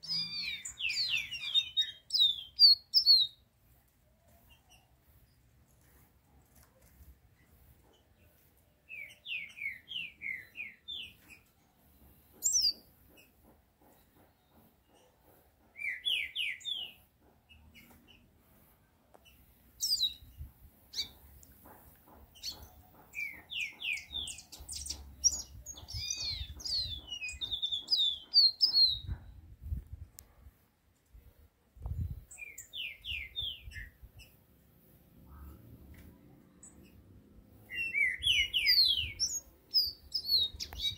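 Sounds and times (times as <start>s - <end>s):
songbird singing: 0.0s - 6.0s, 6.8s - 18.4s, 19.1s - 30.3s, 31.1s - 40.9s.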